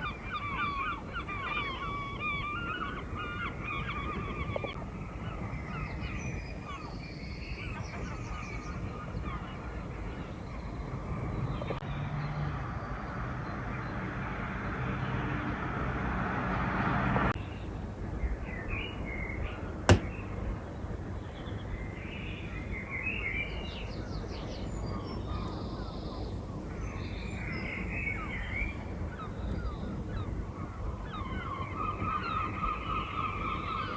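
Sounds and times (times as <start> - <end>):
birds chirping: 0.0 - 16.0, 17.3 - 33.9
low outdoor background noise: 0.0 - 33.9.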